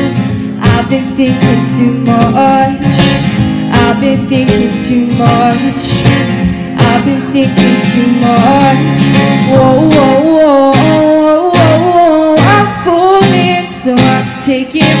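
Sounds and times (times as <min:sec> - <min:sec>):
strummed acoustic guitar: 0:00.0 - 0:15.0
woman singing: 0:00.0 - 0:15.0.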